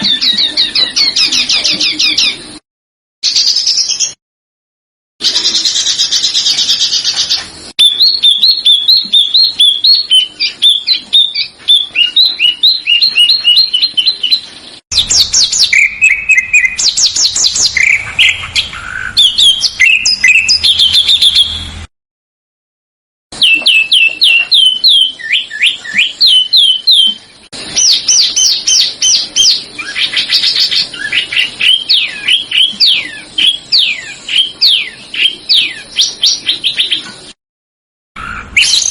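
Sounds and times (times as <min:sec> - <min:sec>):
small songbirds singing: 0:00.0 - 0:02.6, 0:03.2 - 0:04.2, 0:05.2 - 0:21.7, 0:23.4 - 0:37.4, 0:38.2 - 0:38.9.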